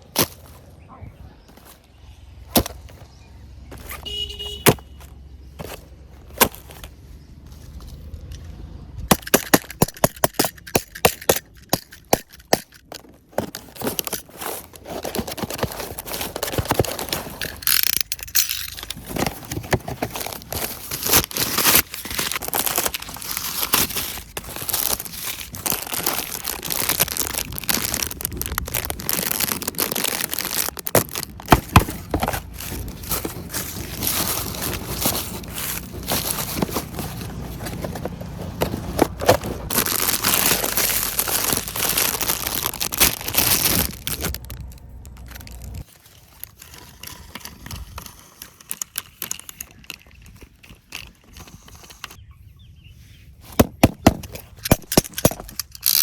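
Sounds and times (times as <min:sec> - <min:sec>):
toy packaging crinkling and tearing: 0:09.1 - 0:52.2, 0:53.5 - 0:56.0.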